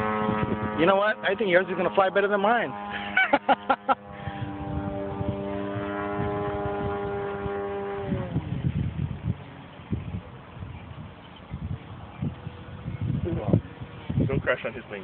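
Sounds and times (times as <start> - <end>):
electric motor and propeller droning: 0.0 - 15.0.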